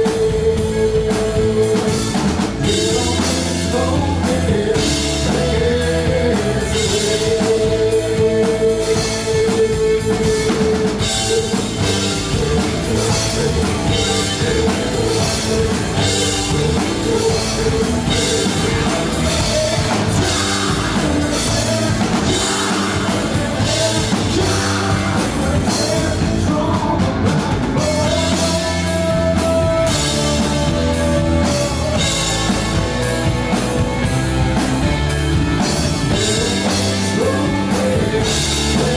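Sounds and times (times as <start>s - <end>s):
person singing: 0.0s - 35.0s, 35.6s - 38.9s
live rock band: 0.0s - 38.9s.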